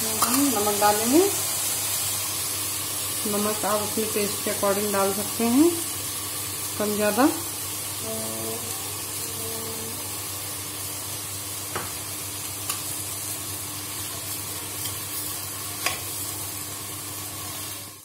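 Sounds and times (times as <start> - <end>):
rice sizzling in hot oil: 0.0 - 18.0.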